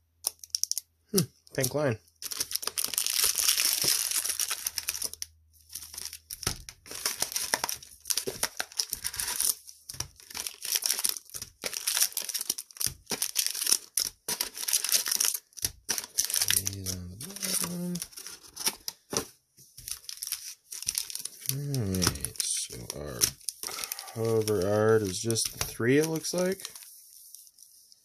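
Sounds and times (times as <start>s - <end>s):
plastic wrappers crinkling: 0.2s - 0.8s, 1.6s - 28.0s.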